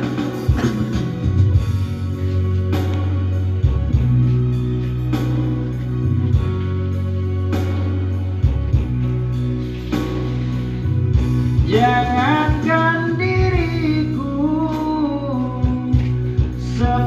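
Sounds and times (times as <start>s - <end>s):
guitar: 0.0s - 17.0s
sustained bass line: 0.0s - 17.0s.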